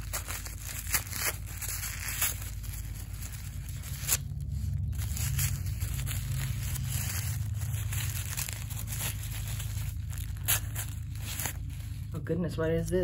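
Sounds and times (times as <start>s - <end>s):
tissue paper crinkling and tearing: 0.0s - 12.2s
steady low hum: 0.0s - 13.0s.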